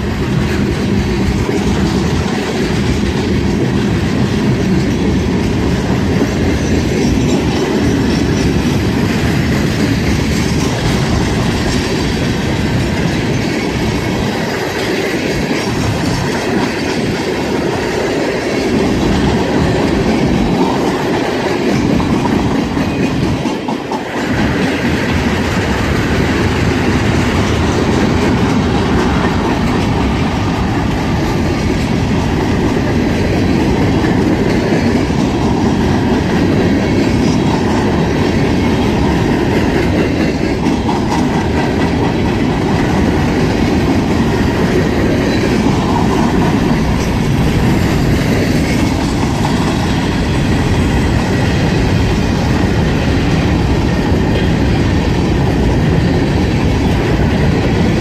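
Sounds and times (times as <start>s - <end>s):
train cars rolling on rails: 0.0s - 58.0s.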